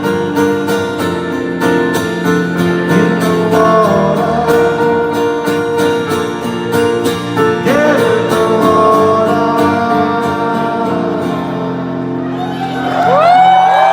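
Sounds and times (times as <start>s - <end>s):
guitar chords: 0.0s - 13.9s.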